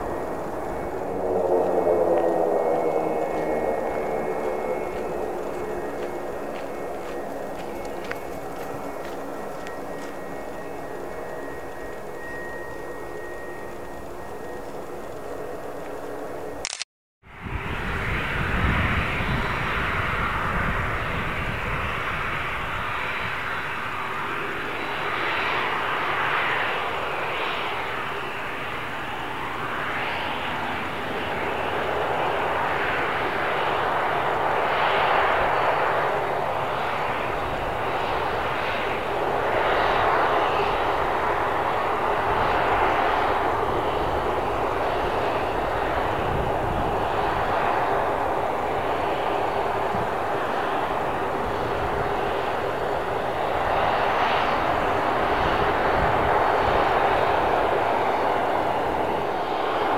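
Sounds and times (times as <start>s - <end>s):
jet engines whining: 0.0s - 16.6s, 17.3s - 59.9s.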